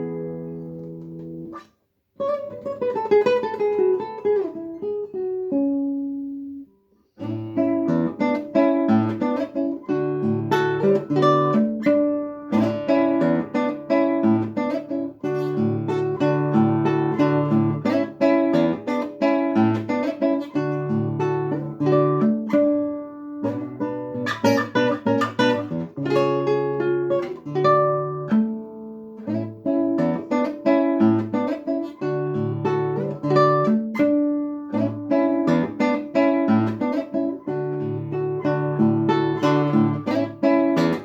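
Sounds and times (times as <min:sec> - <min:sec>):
fingerpicked acoustic guitar: 0:00.0 - 0:41.0.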